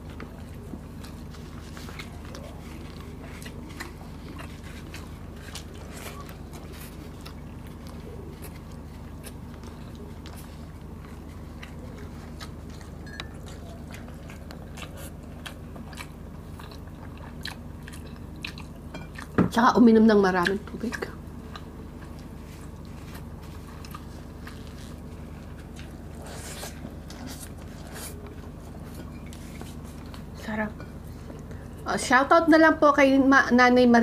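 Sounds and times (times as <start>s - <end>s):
person chewing food: 0.0s - 19.4s, 20.3s - 31.8s.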